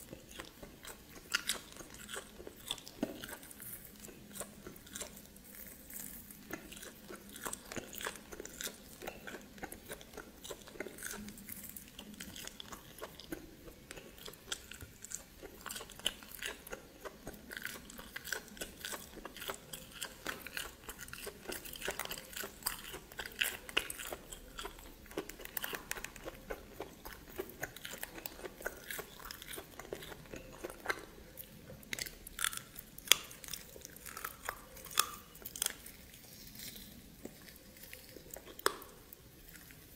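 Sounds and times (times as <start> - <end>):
chewing and biting crunches: 0.0 - 39.9.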